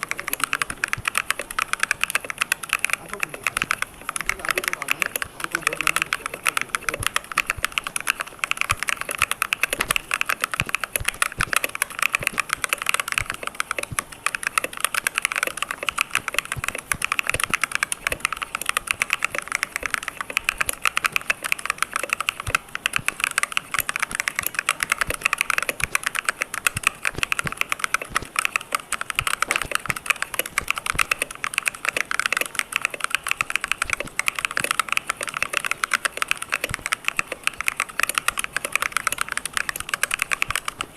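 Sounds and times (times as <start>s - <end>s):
fast typing on clicky keyboard: 0.0s - 40.9s.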